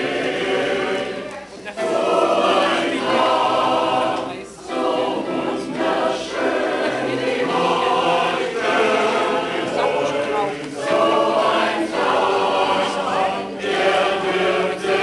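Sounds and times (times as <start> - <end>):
mixed choir singing: 0.0 - 15.0.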